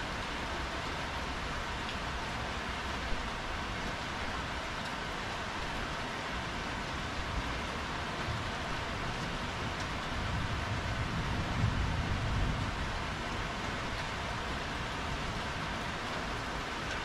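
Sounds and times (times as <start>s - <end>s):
heavy rain on tiled patio: 0.0s - 17.0s.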